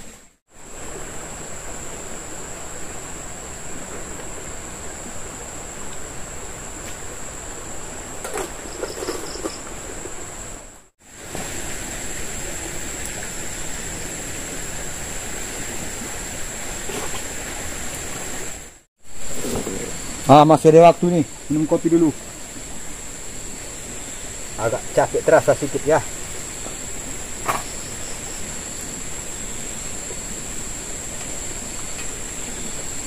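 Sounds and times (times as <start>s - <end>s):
river rushing hiss: 0.0s - 33.0s.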